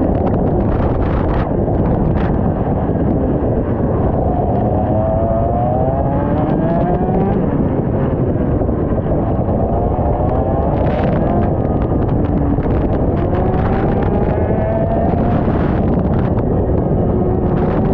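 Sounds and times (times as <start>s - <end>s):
heavy rushing noise: 0.0s - 17.9s.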